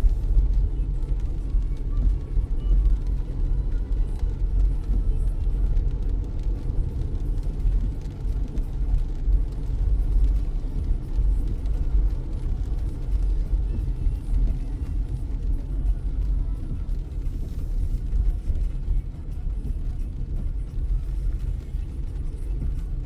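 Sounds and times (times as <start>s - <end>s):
faint rain hiss: 0.0s - 23.0s
tyre and engine rumble: 0.0s - 23.0s.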